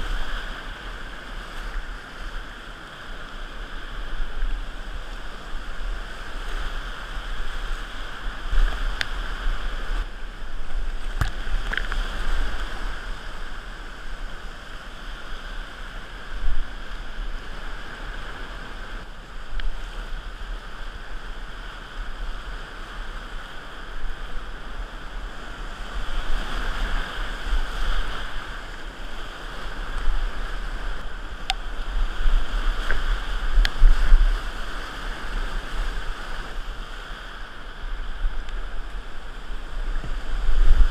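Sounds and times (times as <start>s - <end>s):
rapids rushing and splashing: 0.0s - 40.9s.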